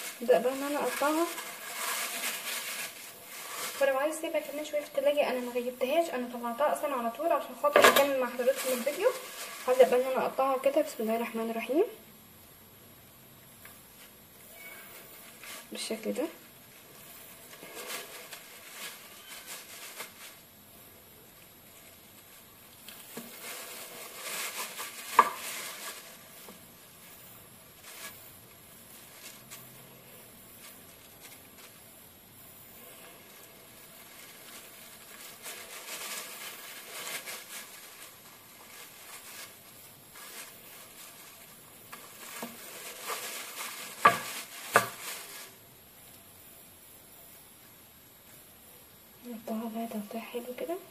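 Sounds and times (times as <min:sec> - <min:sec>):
plastic bag crinkling: 0:00.0 - 0:11.8, 0:13.9 - 0:45.8.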